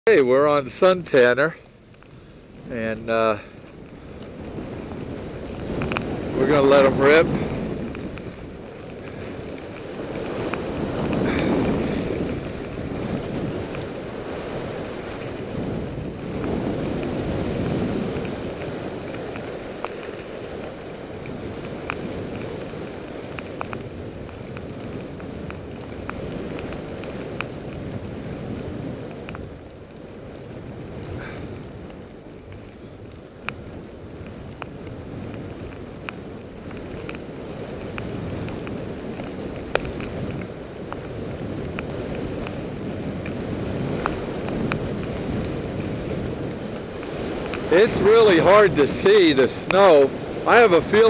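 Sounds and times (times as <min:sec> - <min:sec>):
wind rushing over microphone: 0:00.1 - 0:51.0
skis sliding on snow: 0:00.2 - 0:51.0
faint ticks: 0:01.5 - 0:06.3, 0:07.4 - 0:28.2, 0:28.9 - 0:47.7.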